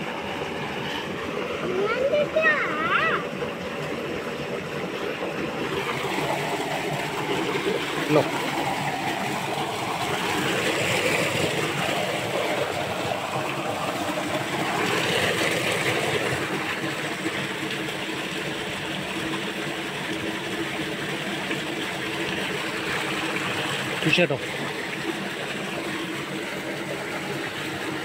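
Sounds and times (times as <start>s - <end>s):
water gushing into a tank: 0.0s - 28.0s.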